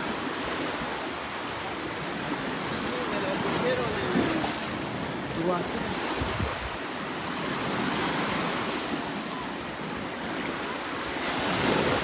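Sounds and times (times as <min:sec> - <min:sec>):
ocean surf on sandy beach: 0:00.0 - 0:12.0.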